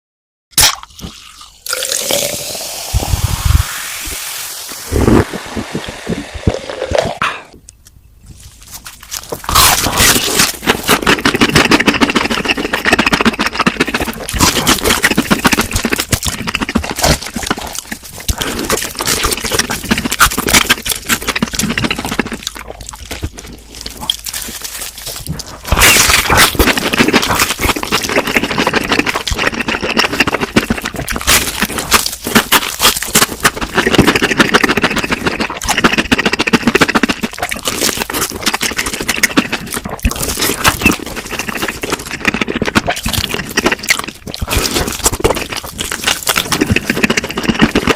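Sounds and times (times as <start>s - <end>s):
crunching and chewing fried food: 0.6s - 2.6s, 8.3s - 47.9s.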